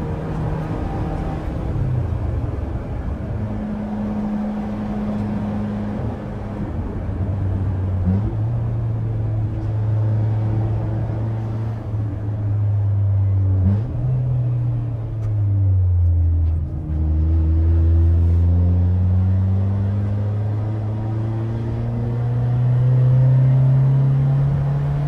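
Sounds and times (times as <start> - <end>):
car engine driving: 0.0 - 25.0.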